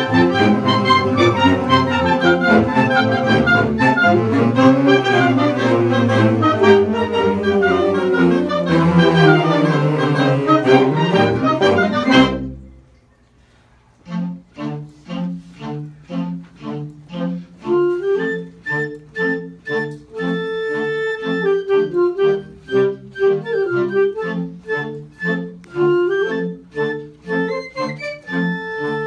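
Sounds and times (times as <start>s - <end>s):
woodwind ensemble playing a march: 0.0s - 12.6s, 14.1s - 29.0s.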